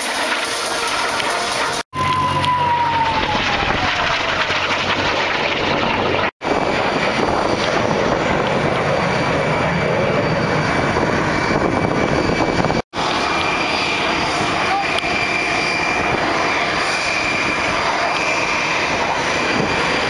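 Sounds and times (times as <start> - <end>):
fighter jet engines roaring: 0.0 - 20.0.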